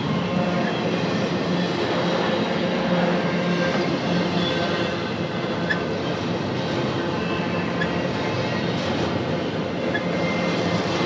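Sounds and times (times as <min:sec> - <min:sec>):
freight train wheels on rail: 0:00.0 - 0:11.0.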